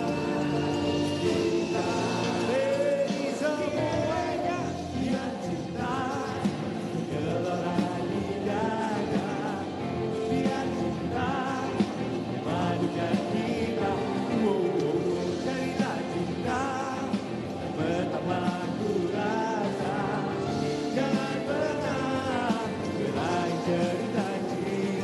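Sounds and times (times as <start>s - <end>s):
live pop band music: 0.0s - 25.0s
vocal harmonies: 0.0s - 25.0s.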